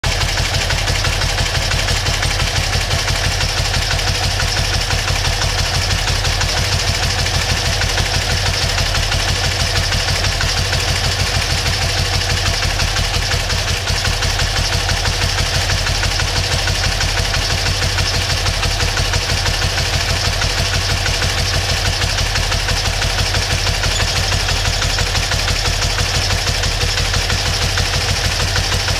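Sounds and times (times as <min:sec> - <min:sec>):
motorcycle engine idling: 0:00.0 - 0:28.9.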